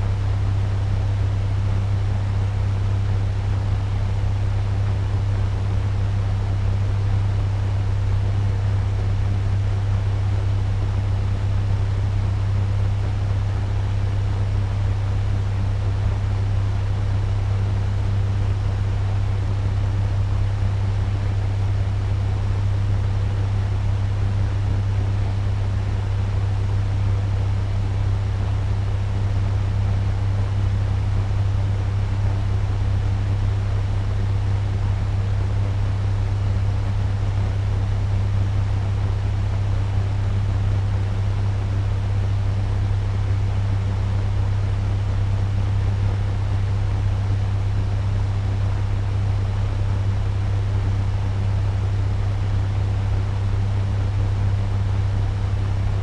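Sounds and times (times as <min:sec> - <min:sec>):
fan running: 0:00.0 - 0:56.0.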